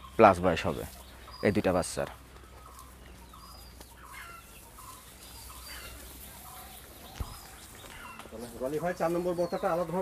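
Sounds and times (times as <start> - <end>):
birds calling faintly: 0.0 - 10.0.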